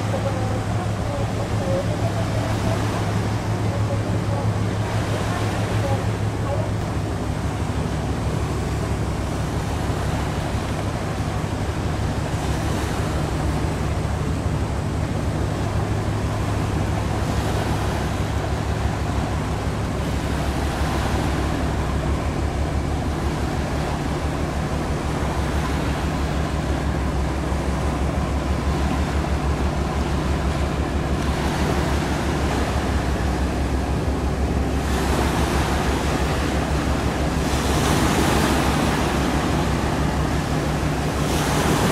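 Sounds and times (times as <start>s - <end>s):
rushing water: 0.0s - 41.9s
tugboat engine humming: 0.0s - 41.9s.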